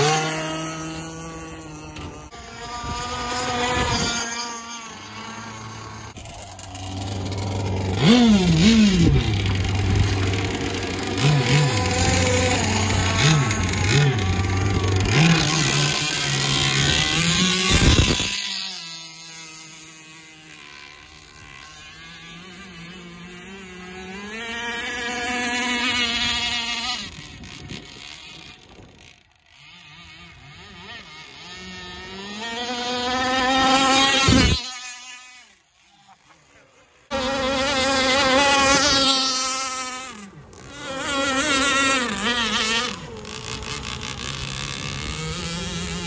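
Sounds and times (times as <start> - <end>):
two-stroke speedboat engine: 0.0 - 46.0.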